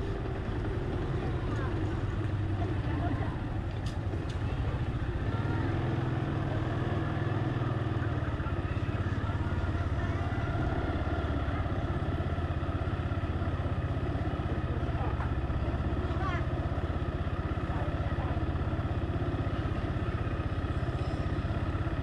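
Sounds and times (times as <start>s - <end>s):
car engine running slowly: 0.0s - 22.0s.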